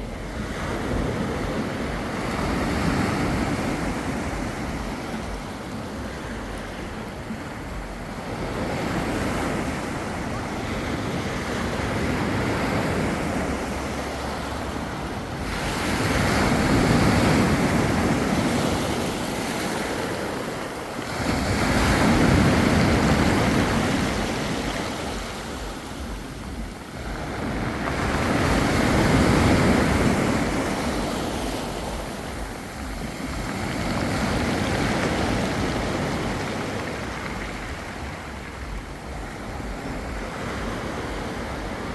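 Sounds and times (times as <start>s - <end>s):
sea waves breaking on a beach: 0.0s - 41.9s.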